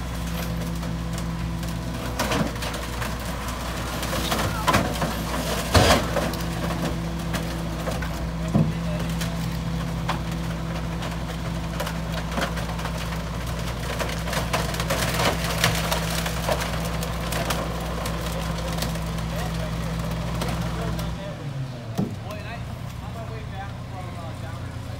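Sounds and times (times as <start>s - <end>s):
garbage truck engine hum: 0.0s - 24.9s
wood cracking and splintering: 0.0s - 24.9s.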